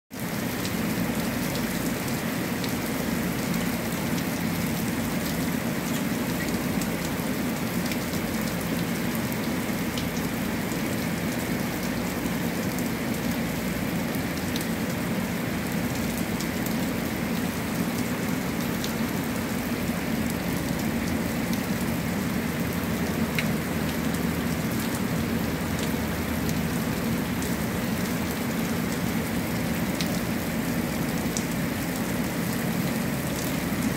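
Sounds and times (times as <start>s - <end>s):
heavy rain on concrete: 0.1s - 33.9s.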